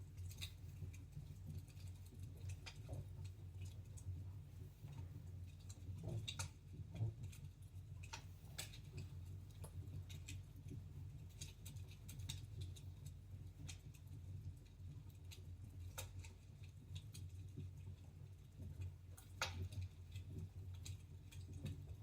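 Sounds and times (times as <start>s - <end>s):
low steady hum: 0.0s - 22.0s
wood fire crackling: 0.0s - 22.0s.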